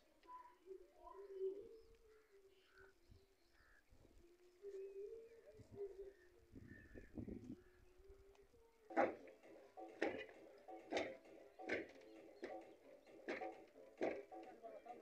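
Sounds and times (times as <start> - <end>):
bird cooing: 0.0 - 13.4.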